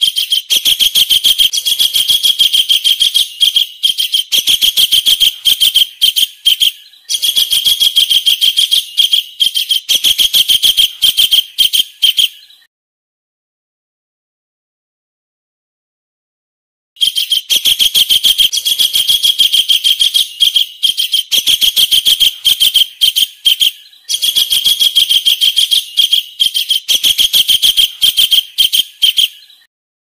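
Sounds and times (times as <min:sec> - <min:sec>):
kingfisher call: 0:00.0 - 0:12.4, 0:17.0 - 0:29.7.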